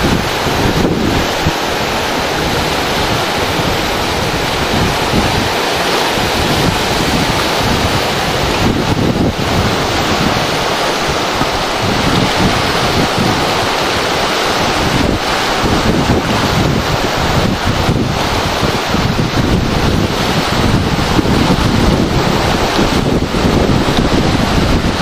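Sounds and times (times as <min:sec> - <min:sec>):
whitewater rapids rushing: 0:00.0 - 0:25.0
wind buffeting microphone: 0:00.0 - 0:25.0.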